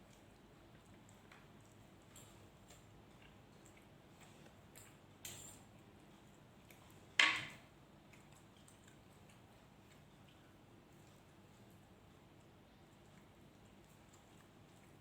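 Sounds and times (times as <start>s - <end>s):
chewing and handling food clicks: 0.0s - 15.0s.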